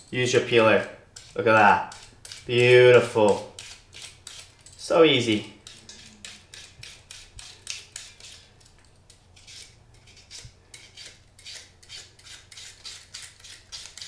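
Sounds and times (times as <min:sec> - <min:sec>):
peeler scraping fennel: 0:00.1 - 0:14.0.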